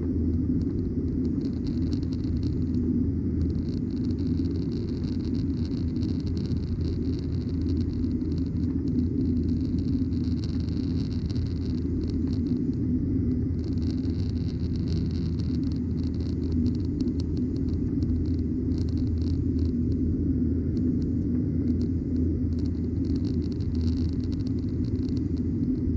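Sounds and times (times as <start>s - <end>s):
jet engine rumble in cabin: 0.0s - 25.9s.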